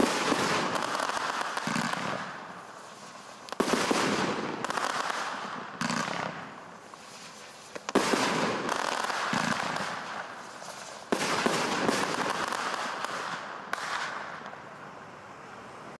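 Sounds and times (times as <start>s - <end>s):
fireworks barrage shots: 0.0s - 14.7s
dense crackling firework noise: 0.0s - 15.6s.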